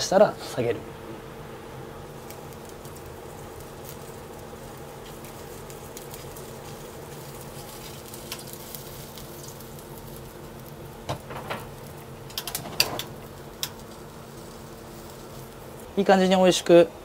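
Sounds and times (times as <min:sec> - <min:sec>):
steady kitchen hum: 0:00.0 - 0:17.0.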